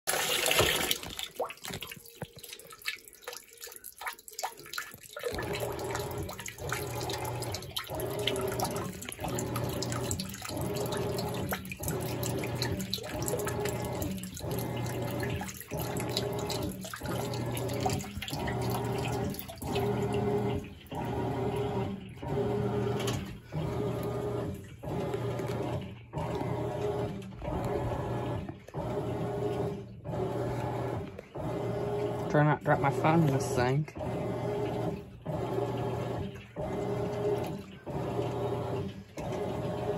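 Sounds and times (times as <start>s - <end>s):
washing machine agitating: 0.0s - 39.9s
water sounds: 0.0s - 39.9s.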